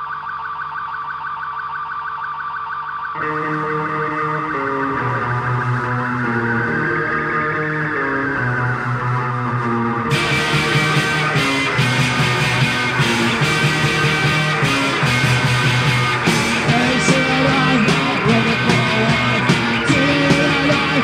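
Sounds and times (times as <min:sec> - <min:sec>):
punk rock band playing: 0:03.2 - 0:21.0.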